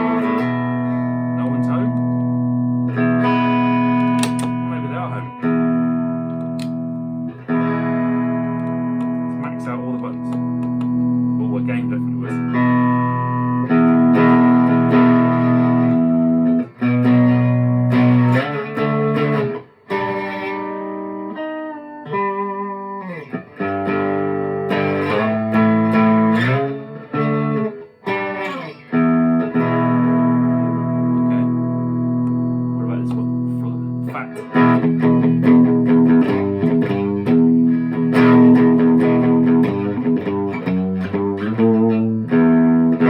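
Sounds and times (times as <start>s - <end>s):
electric guitar chords strummed: 0.0s - 43.0s.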